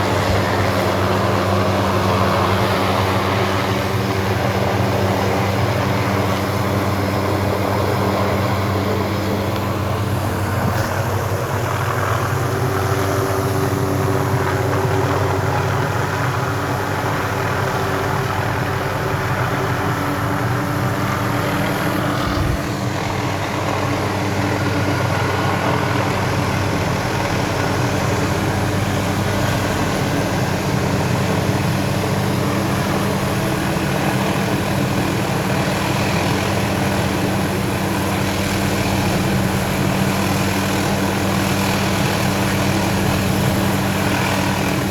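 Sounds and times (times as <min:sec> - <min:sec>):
engine drone: 0:00.0 - 0:44.9.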